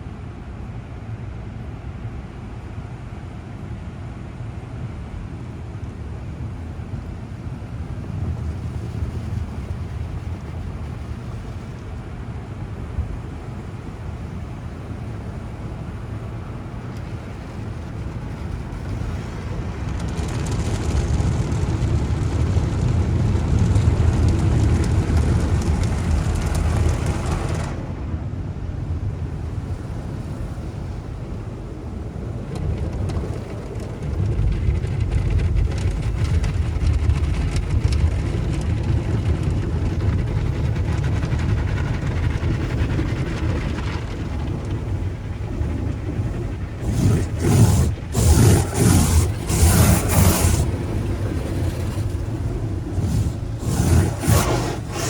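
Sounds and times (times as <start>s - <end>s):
car wash machinery rumbling: 0.0s - 55.0s.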